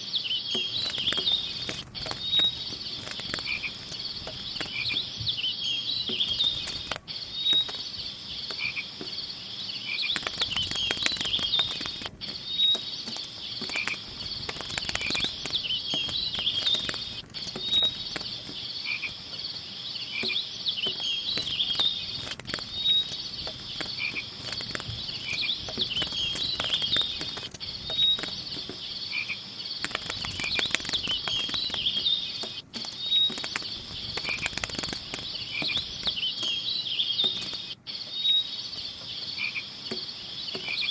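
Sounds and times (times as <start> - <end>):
frogs and insects chirping: 0.0 - 40.9
faint crackling clicks: 0.5 - 40.9.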